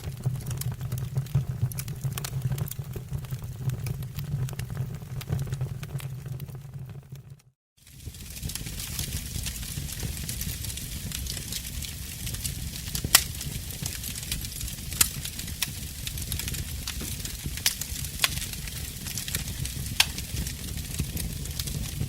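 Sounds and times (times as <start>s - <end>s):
burning logs popping: 0.0s - 22.0s
wood fire crackling: 0.0s - 22.0s.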